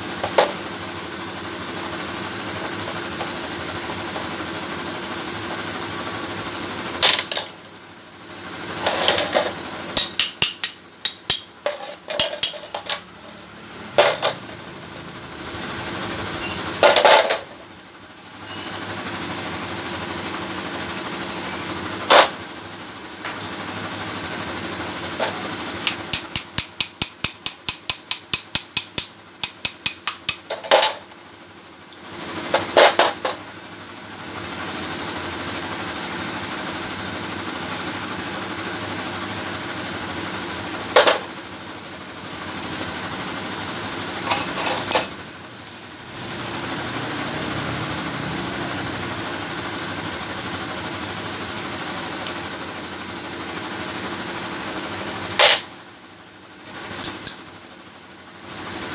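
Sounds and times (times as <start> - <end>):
steady machine hum: 0.0 - 58.9.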